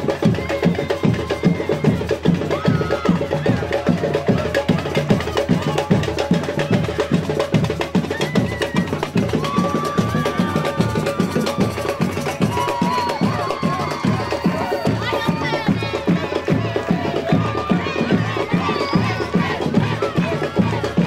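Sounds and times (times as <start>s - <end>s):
dance music with fast drumming: 0.0s - 21.0s.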